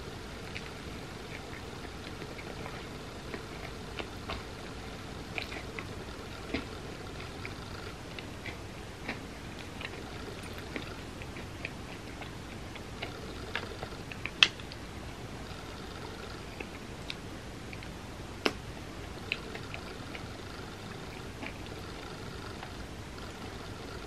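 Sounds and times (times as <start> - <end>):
faint steady hiss: 0.0 - 24.0
chewing with wet mouth clicks: 0.2 - 24.0.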